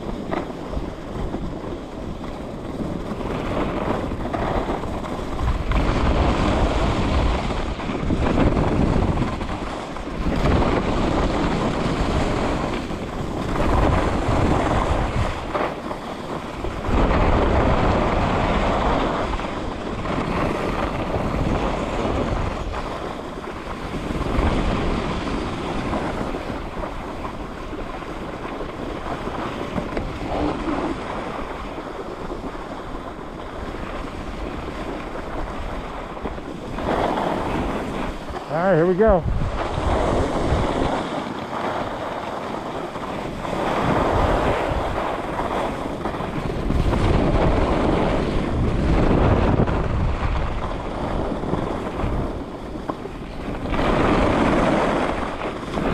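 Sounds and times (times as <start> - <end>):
skis scraping on snow: 0.0 - 55.9
wind rushing over microphone: 0.0 - 55.9.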